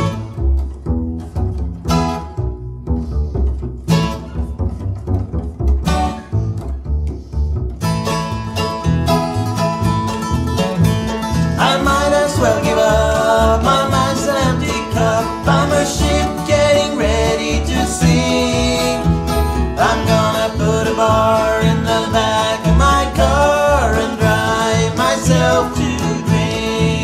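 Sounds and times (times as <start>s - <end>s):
bluegrass band playing: 0.0s - 27.0s
plucked double bass: 0.0s - 27.0s.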